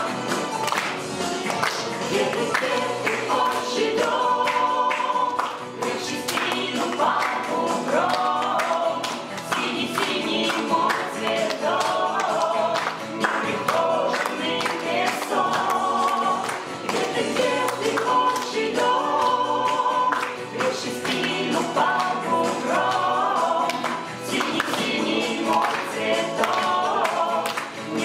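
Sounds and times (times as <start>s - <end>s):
accompanying music: 0.0s - 28.0s
group singing in parts: 0.0s - 28.0s.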